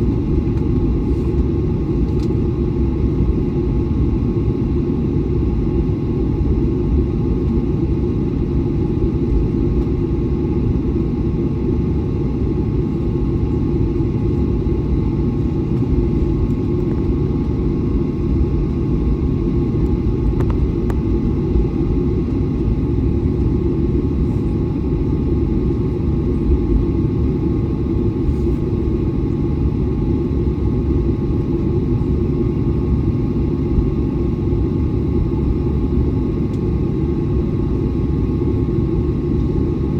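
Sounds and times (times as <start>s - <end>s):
jet engines idling rumble: 0.0s - 39.9s.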